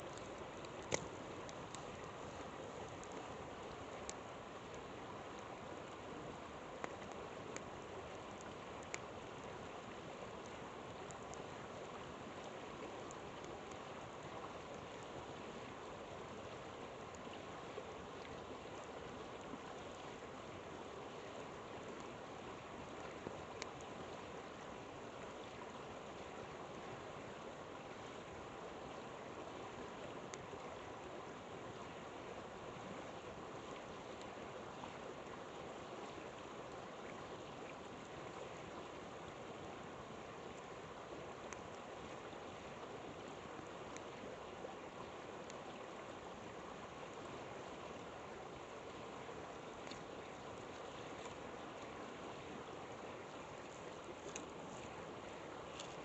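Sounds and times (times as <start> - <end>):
campfire crackles: 0.0 - 56.0
river flowing: 0.0 - 56.0.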